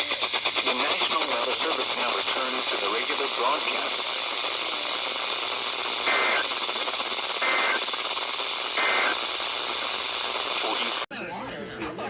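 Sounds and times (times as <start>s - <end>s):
radio hiss: 0.0s - 11.1s.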